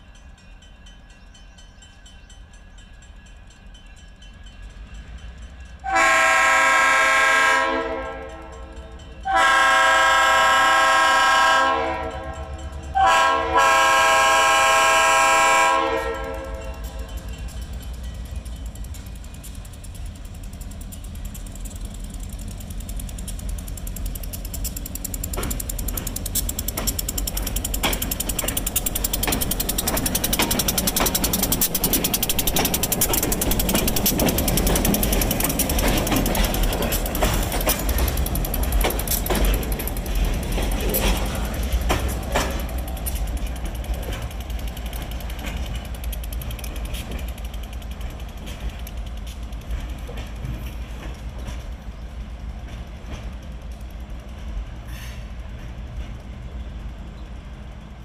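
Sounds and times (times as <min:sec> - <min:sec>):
diesel locomotive engine rumble: 0:00.0 - 0:58.0
train wheels clicking over track: 0:00.0 - 0:58.0.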